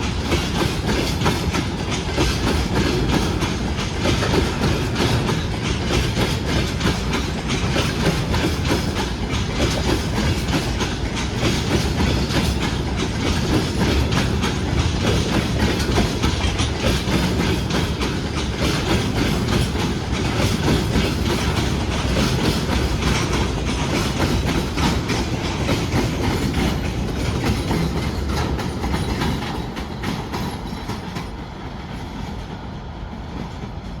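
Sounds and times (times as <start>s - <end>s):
freight train wheels clicking: 0.0s - 34.0s.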